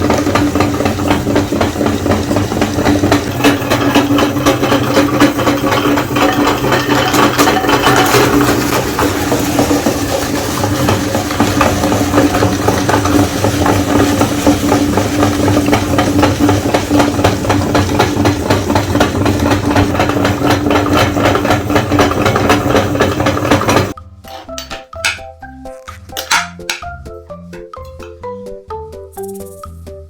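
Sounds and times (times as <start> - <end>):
electric meat grinder grinding: 0.0 - 24.0, 25.9 - 26.8.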